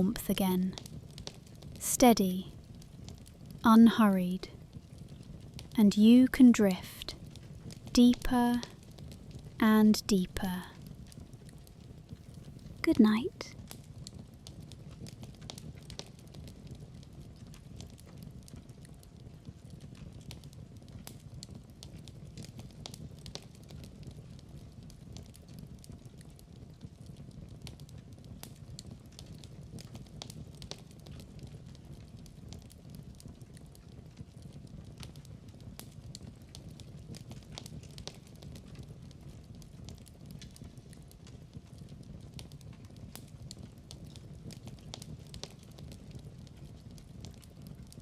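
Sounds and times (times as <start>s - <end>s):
fireplace crackling: 0.0s - 48.0s
low rumble of fire: 0.0s - 48.0s.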